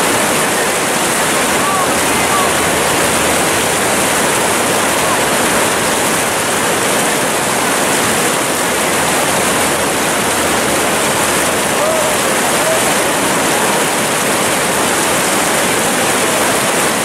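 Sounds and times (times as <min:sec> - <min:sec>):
whitewater rapids rushing: 0:00.0 - 0:17.0.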